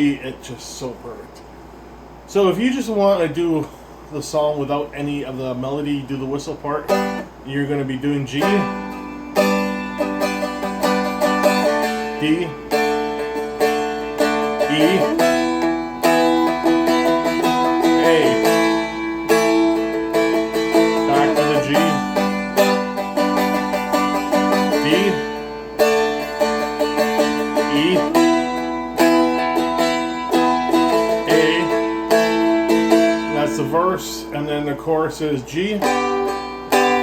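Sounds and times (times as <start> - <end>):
dulcimer strummed and picked: 6.8 - 37.0.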